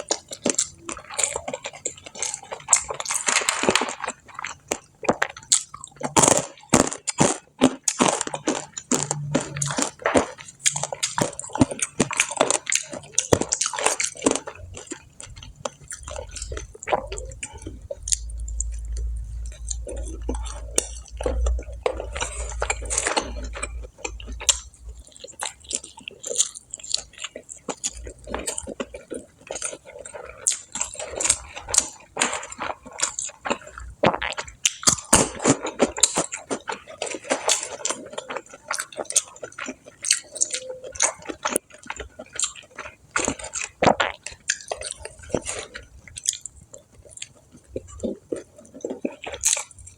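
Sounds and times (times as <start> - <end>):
person chewing crispy food: 0.0 - 49.9.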